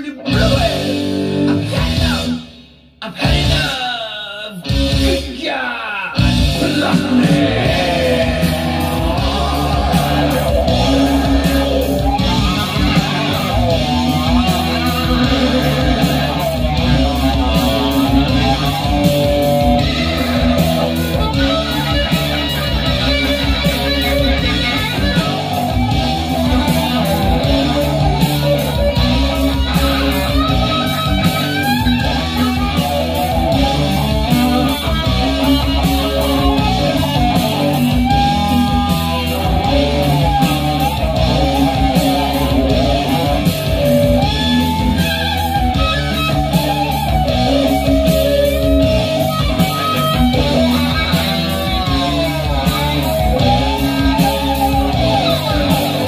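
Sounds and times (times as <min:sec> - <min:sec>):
hard rock over loudspeakers: 0:00.0 - 0:56.0.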